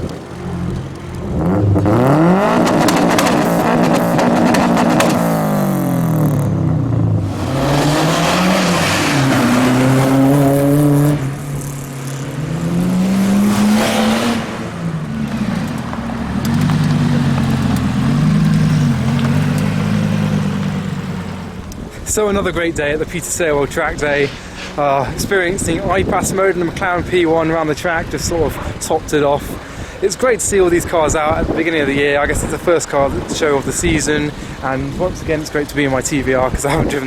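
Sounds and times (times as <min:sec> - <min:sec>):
sports car engines revving: 0:00.0 - 0:37.0.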